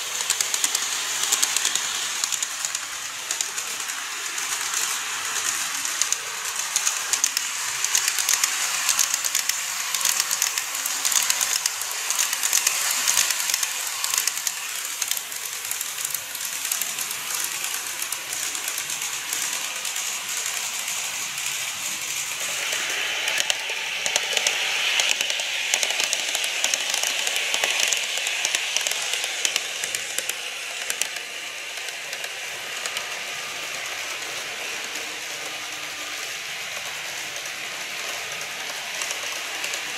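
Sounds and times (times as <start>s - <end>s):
model train wheels clicking: 0.0s - 39.9s
rolling hiss: 0.0s - 39.9s.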